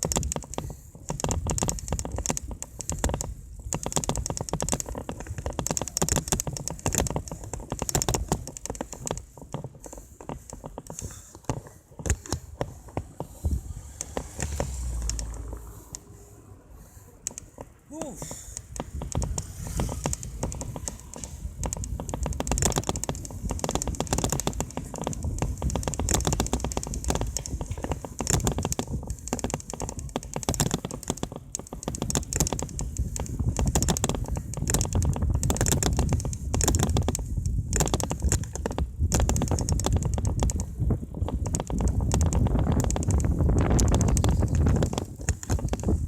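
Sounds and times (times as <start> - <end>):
mountain bike rattling and clicking: 0.0 - 46.0
wind rumble on microphone: 0.0 - 46.0.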